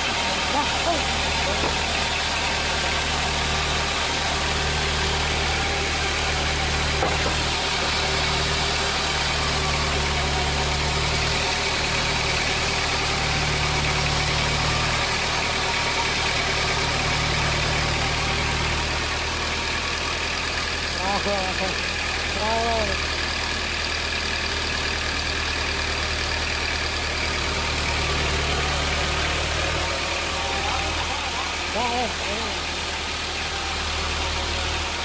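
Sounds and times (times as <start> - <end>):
sawmill machinery humming: 0.0 - 35.0.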